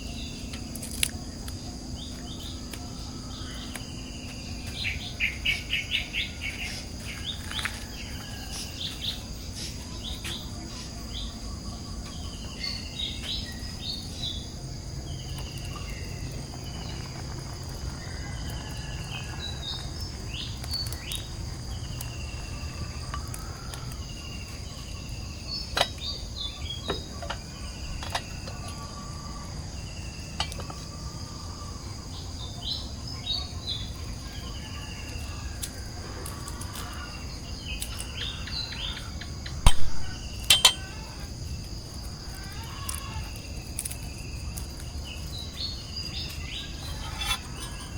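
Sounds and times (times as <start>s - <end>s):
crickets and insects droning: 0.0s - 47.9s.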